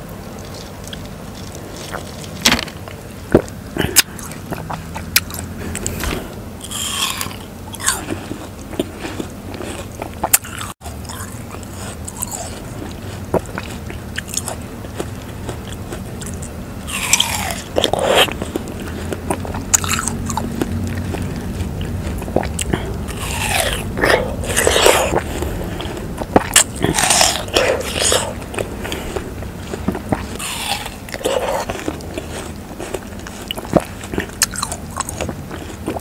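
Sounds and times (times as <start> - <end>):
chewing watermelon: 0.0 - 36.0
mouth smacking: 3.3 - 36.0.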